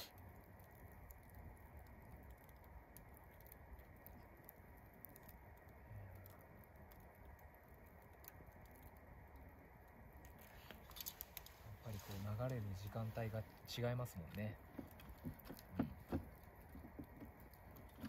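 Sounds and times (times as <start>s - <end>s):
campfire crackling and popping: 0.0s - 18.0s
low background hiss: 0.0s - 18.0s.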